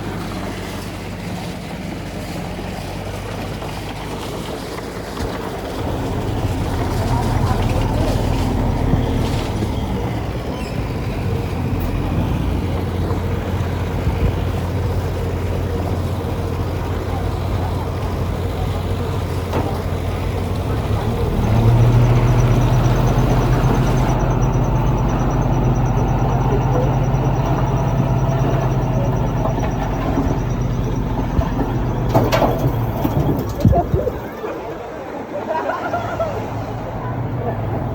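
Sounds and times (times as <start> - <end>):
diesel engine droning: 0.0 - 37.9.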